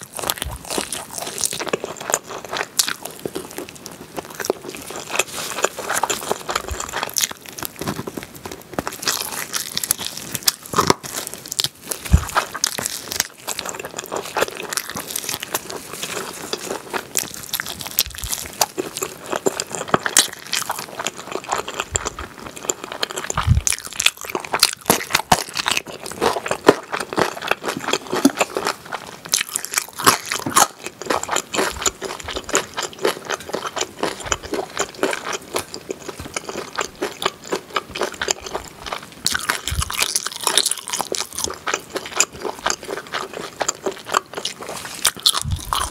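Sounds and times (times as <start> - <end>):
person chewing ribs: 0.0 - 45.9.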